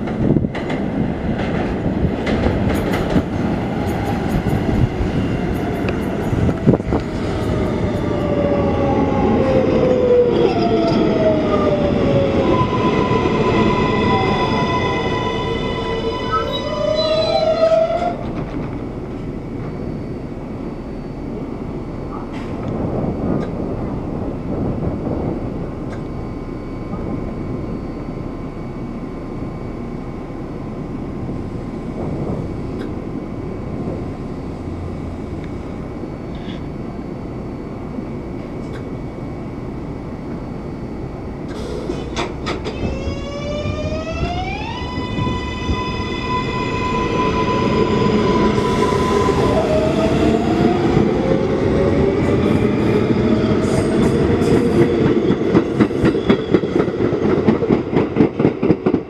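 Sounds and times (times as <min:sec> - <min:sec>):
subway train motor whine: 0:00.0 - 0:59.0
train rumbling hum: 0:00.0 - 0:59.0.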